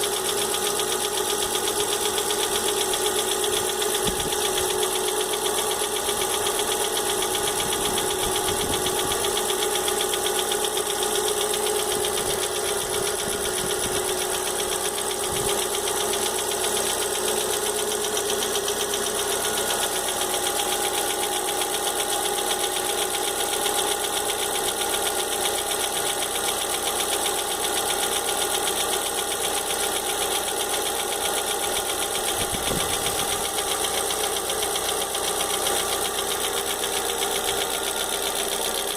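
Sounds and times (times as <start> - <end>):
car engine running: 0.0 - 38.9
fast ticking from engine: 0.0 - 38.9.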